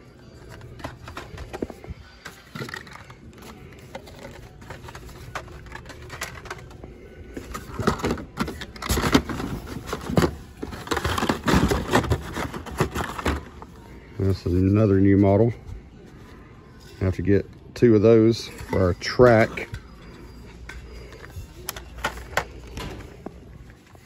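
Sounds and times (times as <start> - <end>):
plastic packs clicking and scraping: 0.2 - 15.6, 18.3 - 24.0.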